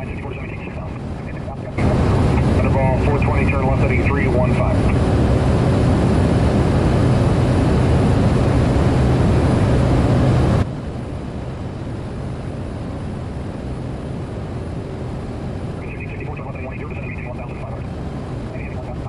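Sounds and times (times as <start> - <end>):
turboprop engine drone in cockpit: 0.0 - 19.0.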